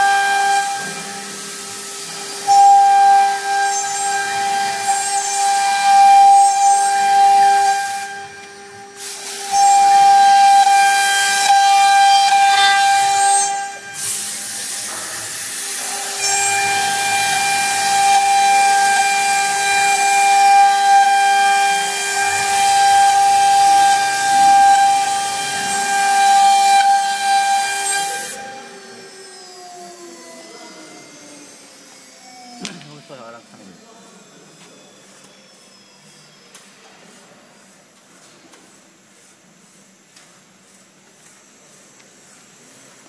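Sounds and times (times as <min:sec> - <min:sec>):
router spindle high whine: 0:00.0 - 0:37.4.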